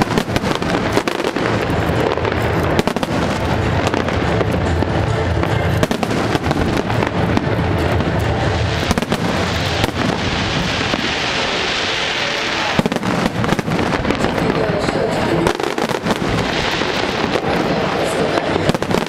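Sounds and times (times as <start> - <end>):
fireworks bangs: 0.0 - 19.0
fireworks crackle: 0.0 - 19.0
hissing crackle: 0.0 - 19.0.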